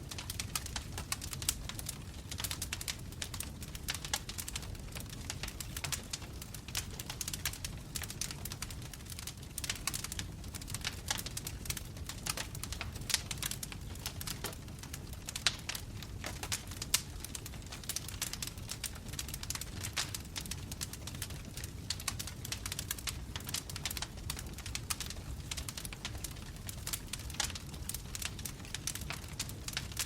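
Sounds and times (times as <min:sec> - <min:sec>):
low fire rumble: 0:00.0 - 0:30.0
wood fire crackling: 0:00.0 - 0:30.0.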